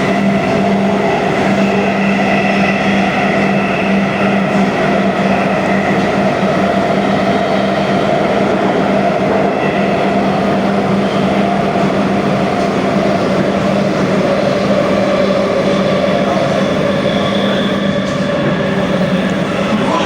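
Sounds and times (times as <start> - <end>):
metro train rumbling: 0.0 - 20.0.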